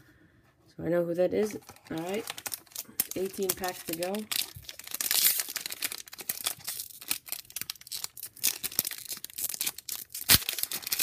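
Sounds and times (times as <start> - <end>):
foil wrapper crinkling and tearing: 1.4 - 11.0.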